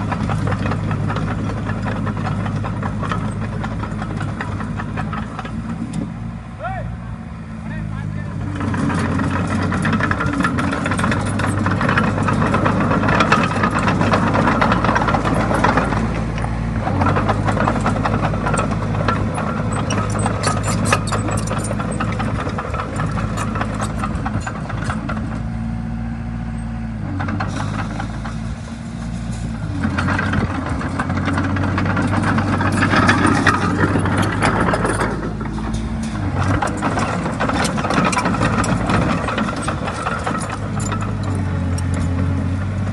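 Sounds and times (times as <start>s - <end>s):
track clatter: 0.0s - 6.8s, 7.6s - 42.9s
bulldozer diesel engine under load: 0.0s - 42.9s.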